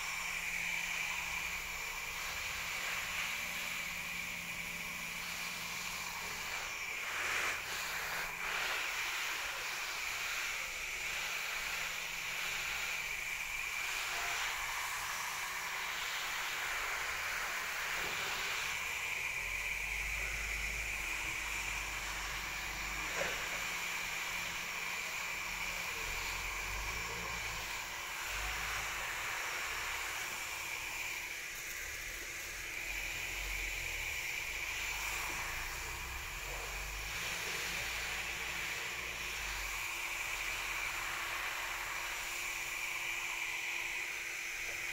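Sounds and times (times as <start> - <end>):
hose spray on leaves: 0.0 - 44.9.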